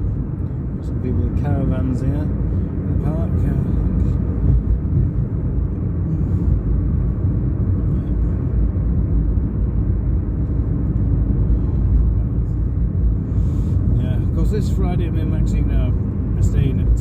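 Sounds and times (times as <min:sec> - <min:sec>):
car engine from inside cabin: 0:00.0 - 0:17.0
tyre road noise: 0:00.0 - 0:17.0.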